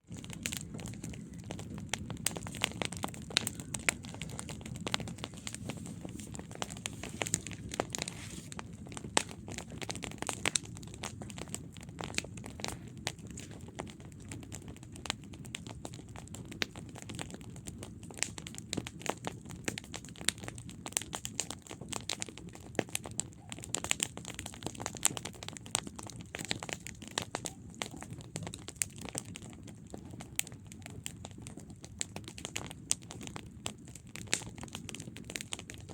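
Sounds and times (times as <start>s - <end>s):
burning wood crackling and popping: 0.0s - 35.9s
campfire flames rumbling: 0.0s - 35.9s.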